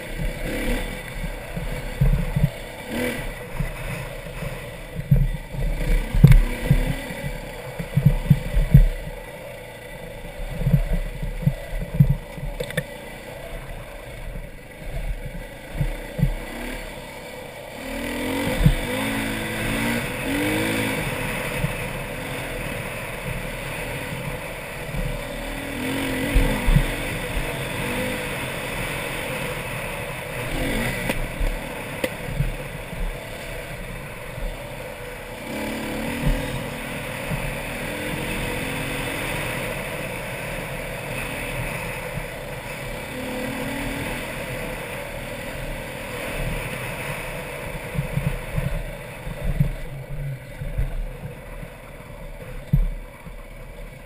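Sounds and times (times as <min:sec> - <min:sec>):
dirt bike engine revving: 0:00.0 - 0:52.8.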